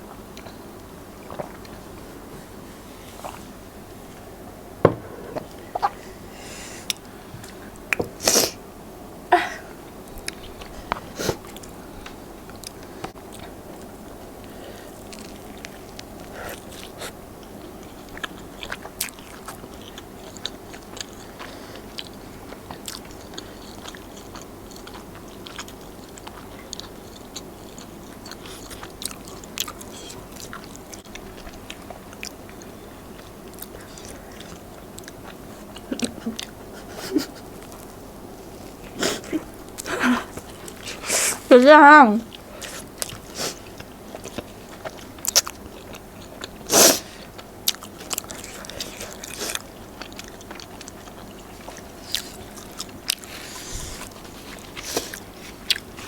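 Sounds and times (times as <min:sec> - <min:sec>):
people biting and chewing food: 0:10.0 - 0:41.4, 0:42.3 - 0:56.0.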